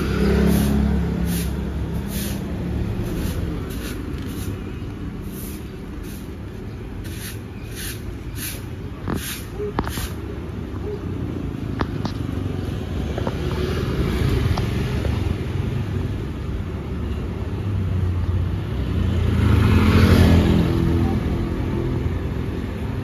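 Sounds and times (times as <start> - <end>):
motorbikes passing: 0.0 - 23.0.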